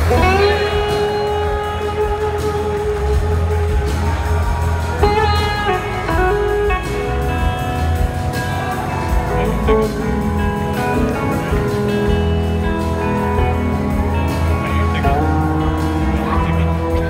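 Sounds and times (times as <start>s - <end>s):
blues-rock band playing live: 0.0s - 17.0s.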